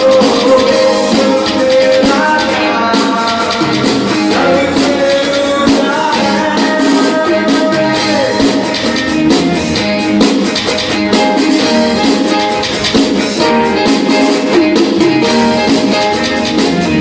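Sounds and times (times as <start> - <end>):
keyboard playing: 0.0 - 17.0
steady drum beat: 0.0 - 17.0.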